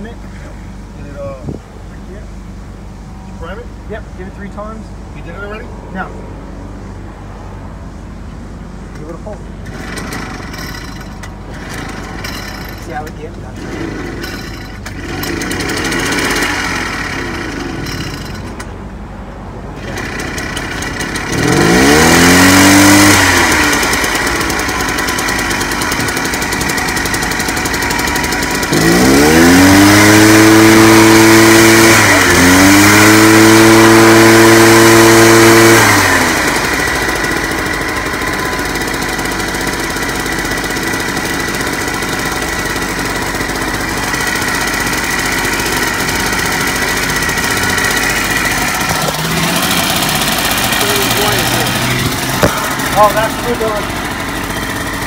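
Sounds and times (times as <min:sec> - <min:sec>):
small gasoline engine revving: 0:09.6 - 0:18.6, 0:19.8 - 0:55.0.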